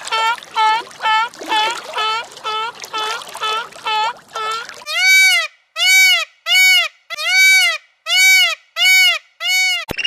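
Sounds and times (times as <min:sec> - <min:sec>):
waterfowl honking: 0:00.0 - 0:09.9.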